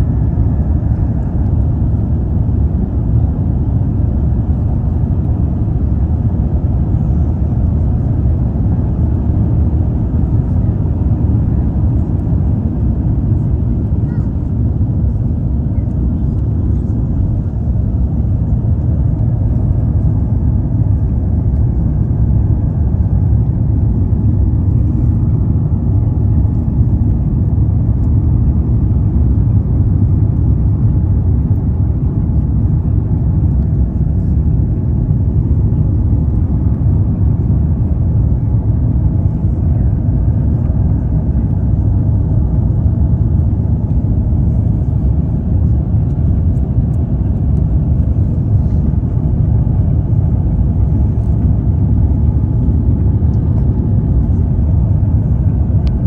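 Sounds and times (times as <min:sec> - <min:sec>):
airplane cabin low rumble: 0:00.0 - 0:56.0.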